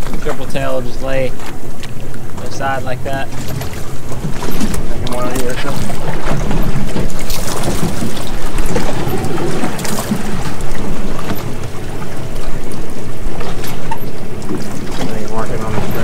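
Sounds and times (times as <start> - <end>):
boat engine: 0.0 - 16.0
water rushing: 0.0 - 16.0
wind buffeting microphone: 0.0 - 16.0.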